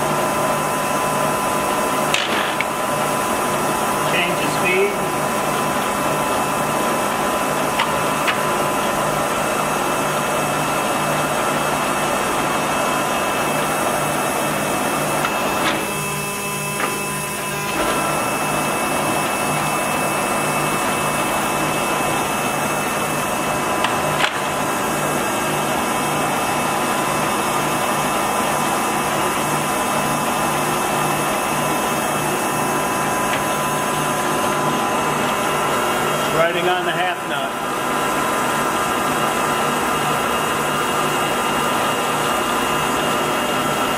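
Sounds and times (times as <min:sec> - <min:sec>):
lathe whirring with low throb: 0:00.0 - 0:43.9.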